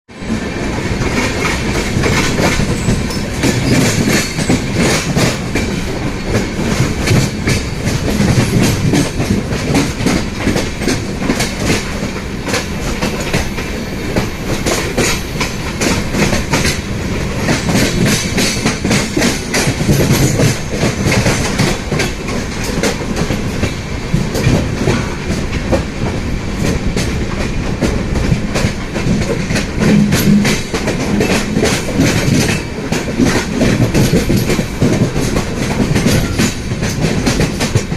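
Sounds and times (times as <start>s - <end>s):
clickety-clack of rail joints: 0.1s - 37.9s
train wheels rumbling on rails: 0.1s - 37.9s.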